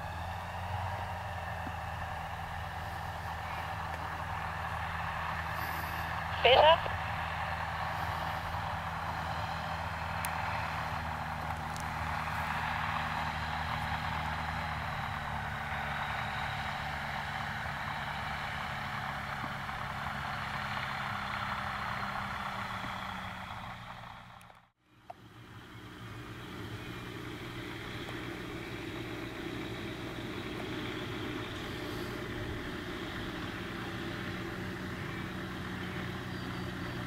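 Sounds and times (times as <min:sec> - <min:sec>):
light aircraft engine and propeller: 0:00.0 - 0:37.0.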